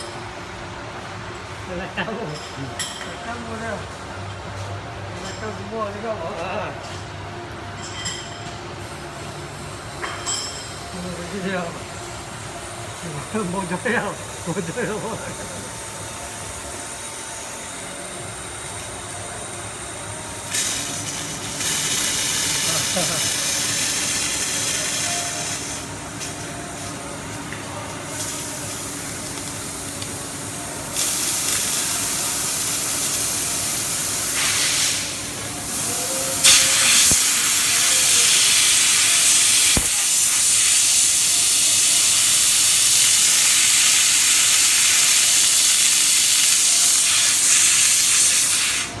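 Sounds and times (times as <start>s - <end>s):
hissing coolant spray: 8.8s - 49.0s.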